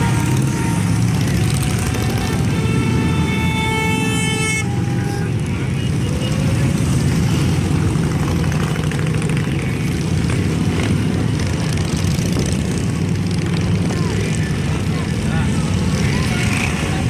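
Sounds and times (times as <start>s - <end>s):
many motorcycle engines running: 0.0s - 17.0s.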